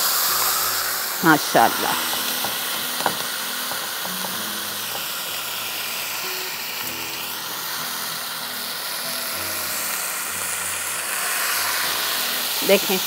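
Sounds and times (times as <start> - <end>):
chicken sizzling in oil: 0.0 - 13.0
music: 0.0 - 13.0.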